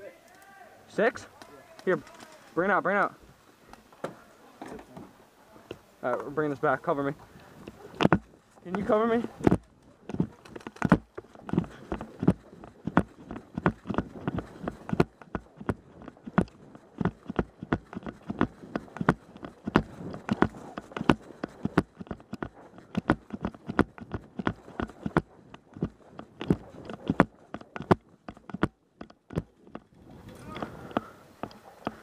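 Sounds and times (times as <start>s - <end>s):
running footsteps outdoors: 0.0s - 32.0s.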